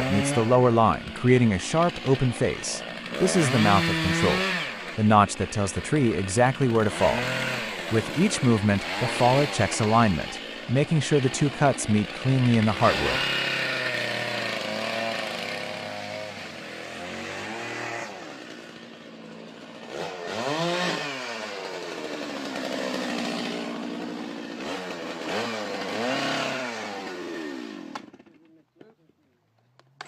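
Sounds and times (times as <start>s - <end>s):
chainsaw cutting tree trunk: 0.0s - 28.9s.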